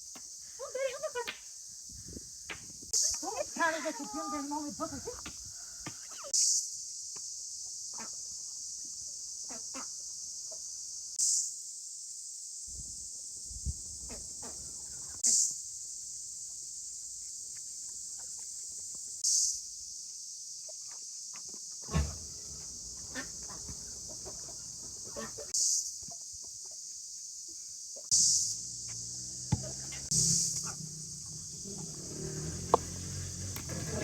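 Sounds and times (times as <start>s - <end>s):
insects chirping chorus: 0.0s - 34.0s.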